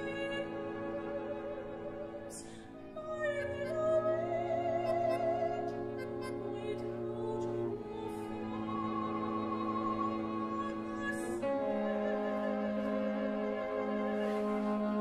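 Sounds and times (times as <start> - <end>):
bowed strings holding chords: 0.0 - 15.0
soprano singing: 0.0 - 15.0.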